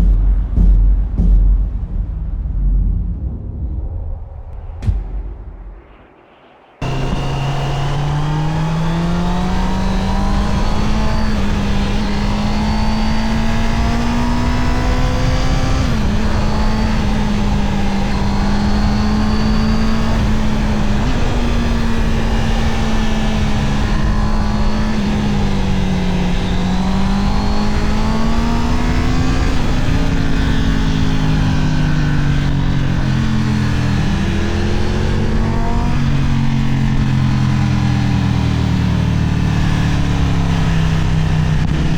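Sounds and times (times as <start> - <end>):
motorcycle engine revving: 6.8 - 41.9.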